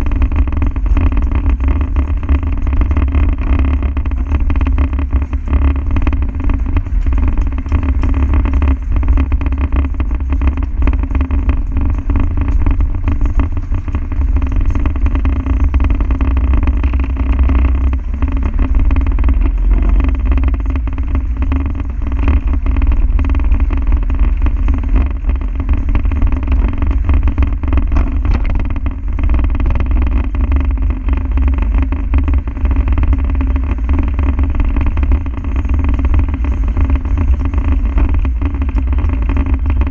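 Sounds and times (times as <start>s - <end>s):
knocks and rattles: 0.0s - 32.2s
diesel engine rumbling: 0.0s - 39.9s.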